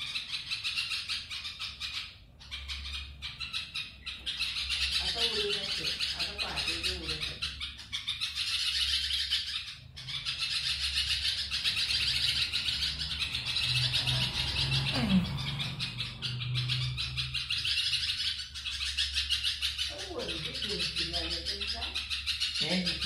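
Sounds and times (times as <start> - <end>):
young birds chirping rapidly: 0.0 - 23.0.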